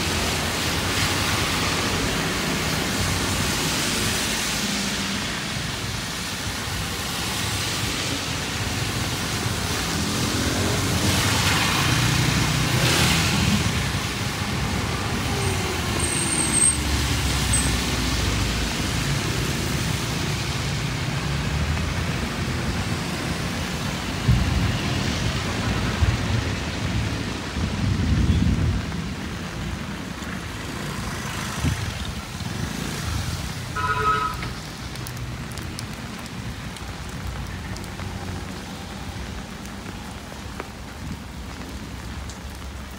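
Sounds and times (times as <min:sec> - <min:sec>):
rain hiss: 0:00.0 - 0:42.9
vehicles passing on wet road: 0:00.0 - 0:42.9.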